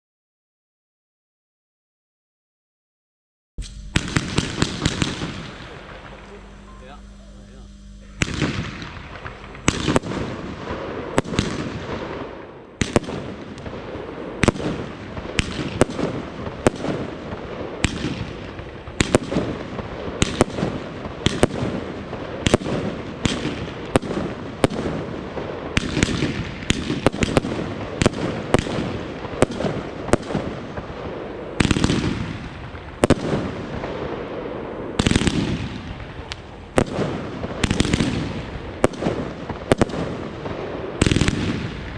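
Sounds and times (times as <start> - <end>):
firework crackling: 3.6 - 41.9
firework shots and bursts: 3.6 - 41.9.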